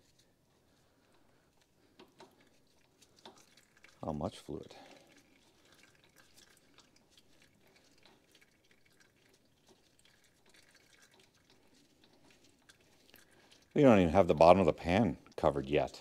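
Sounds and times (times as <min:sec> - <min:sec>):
fluid dripping into a pan: 0:00.0 - 0:16.0.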